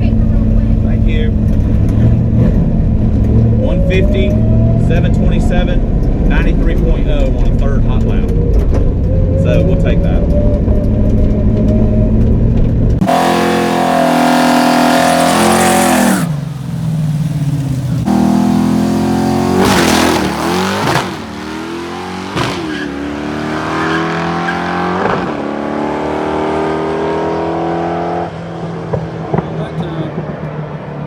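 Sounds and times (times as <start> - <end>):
drag car revving and accelerating: 0.0 - 16.7, 17.4 - 31.0.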